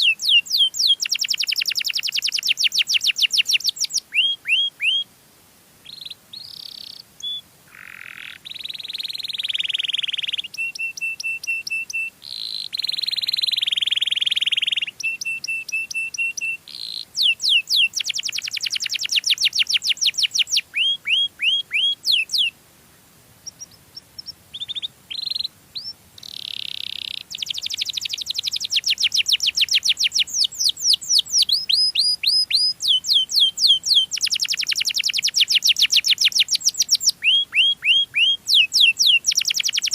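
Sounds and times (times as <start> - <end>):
canary singing: 0.0 - 5.1, 5.8 - 22.5, 23.4 - 39.9.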